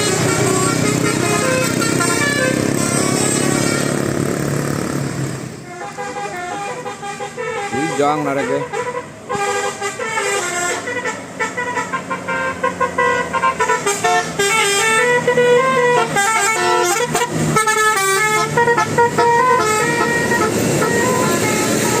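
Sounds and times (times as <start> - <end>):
musical air horn melody: 0.0 - 4.0, 5.6 - 22.0.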